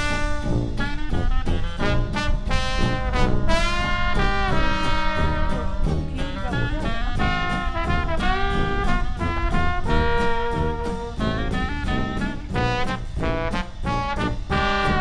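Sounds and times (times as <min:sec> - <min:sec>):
jazz music with brass horns: 0:00.0 - 0:15.0.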